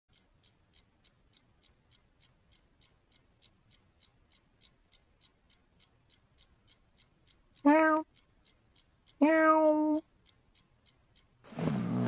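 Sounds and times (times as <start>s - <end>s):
clock ticking: 0.1s - 11.6s.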